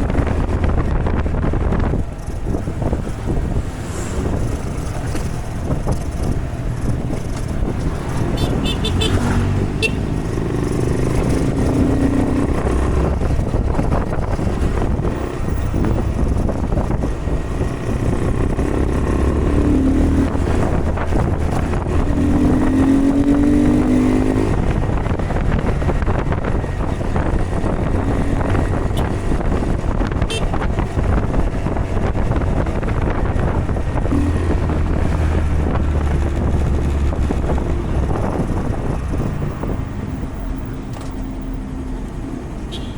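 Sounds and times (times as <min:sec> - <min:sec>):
motorbike engine running: 0:00.0 - 0:41.3
steady rushing noise: 0:00.0 - 0:42.6.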